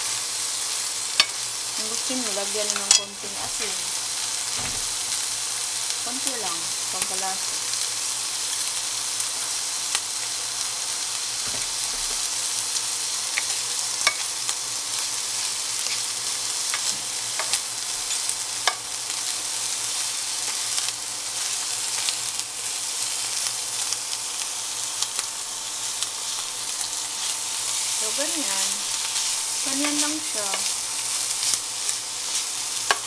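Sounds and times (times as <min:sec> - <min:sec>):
food sizzling in a frying pan: 0:00.0 - 0:33.0.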